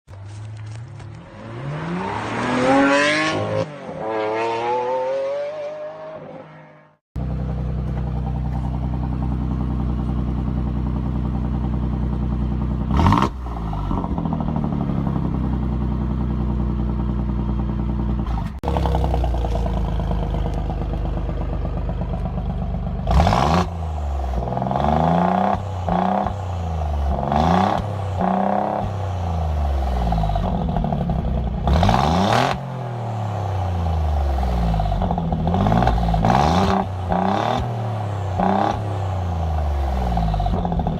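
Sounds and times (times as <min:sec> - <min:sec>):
car engine revving: 0:00.6 - 0:40.9
car engine idling: 0:07.2 - 0:32.0, 0:32.6 - 0:40.9.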